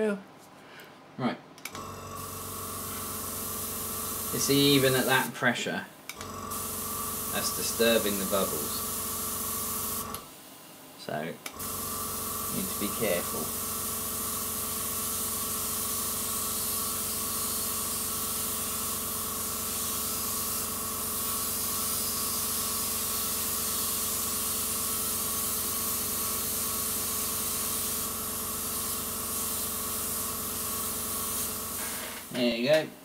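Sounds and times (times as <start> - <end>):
airbrush hiss of air: 2.3 - 5.3, 6.5 - 10.1, 11.6 - 32.4.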